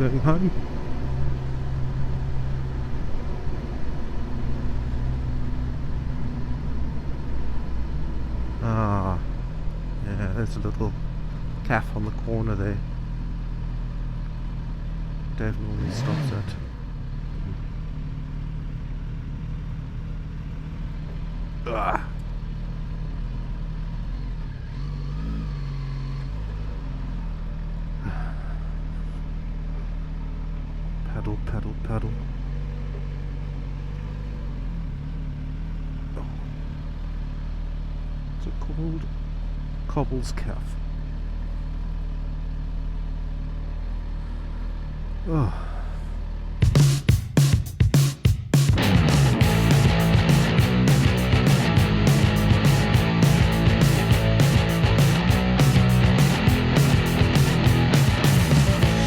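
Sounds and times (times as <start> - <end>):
motorcycle engine running: 0.0 - 31.1, 31.7 - 59.0
wind and road noise: 0.0 - 37.9, 48.8 - 59.0.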